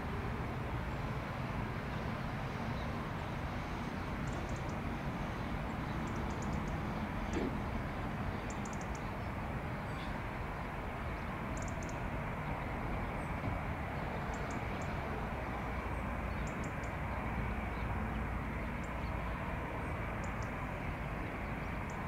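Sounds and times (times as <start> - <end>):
distant jet engines rumbling: 0.1 - 22.0.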